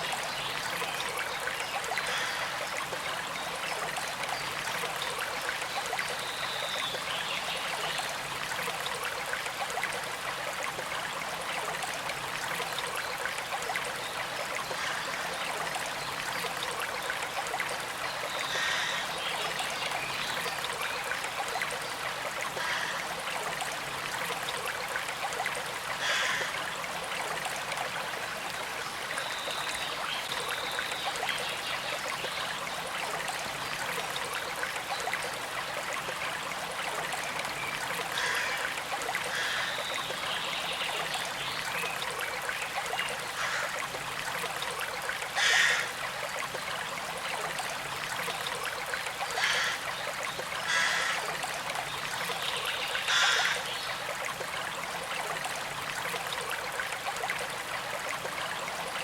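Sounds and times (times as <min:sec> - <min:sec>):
creek trickling: 0:00.0 - 0:59.0.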